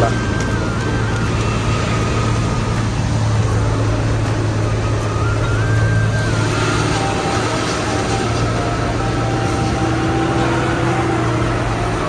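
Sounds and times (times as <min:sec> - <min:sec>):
road noise: 0:00.0 - 0:12.0
truck engine humming: 0:00.0 - 0:12.0.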